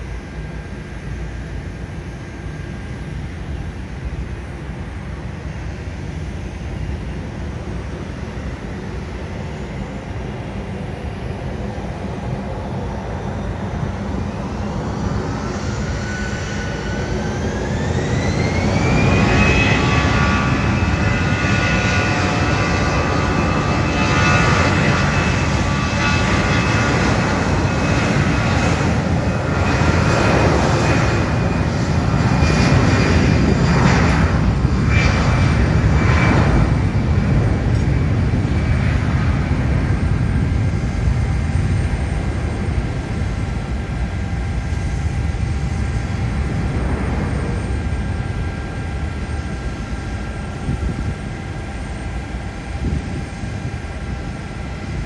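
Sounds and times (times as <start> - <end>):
jet engines spooling up: 4.3 - 55.0.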